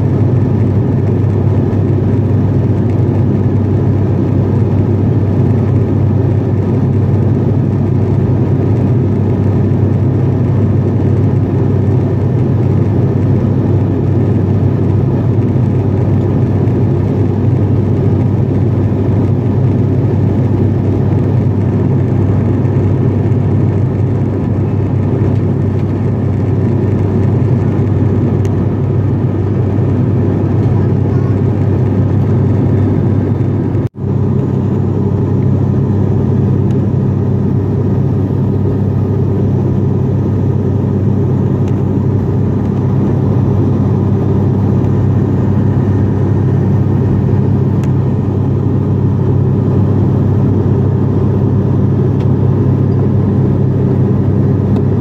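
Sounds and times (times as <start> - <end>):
turboprop cabin drone: 0.0 - 55.0.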